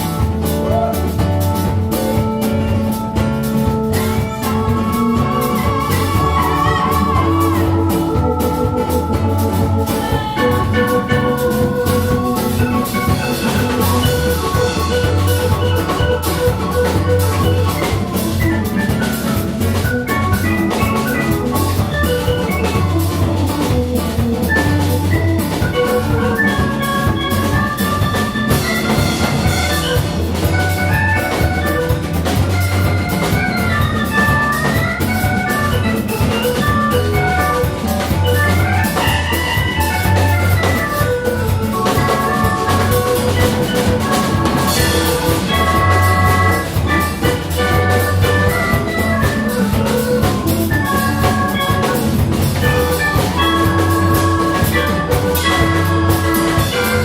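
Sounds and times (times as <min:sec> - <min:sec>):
drum beat: 0:00.0 - 0:57.0
instrumental ensemble music: 0:00.0 - 0:57.0.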